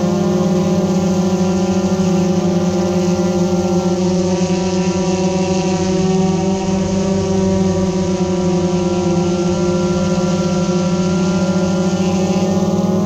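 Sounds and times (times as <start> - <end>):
mechanical hum of motors: 0.0 - 13.0.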